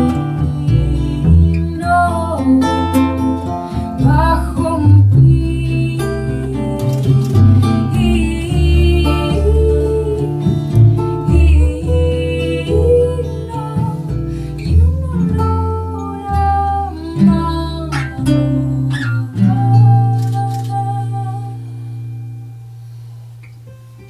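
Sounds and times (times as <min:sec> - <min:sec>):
woman singing: 0:00.0 - 0:22.2
acoustic guitars: 0:00.0 - 0:24.0
plucked double bass: 0:00.0 - 0:24.0.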